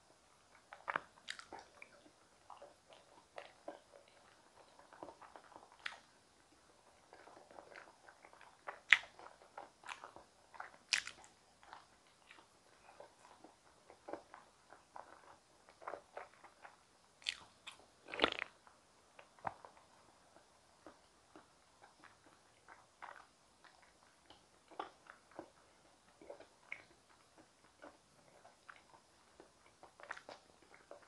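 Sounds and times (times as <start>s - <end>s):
chewing and biting: 0.5s - 18.6s, 19.2s - 31.0s.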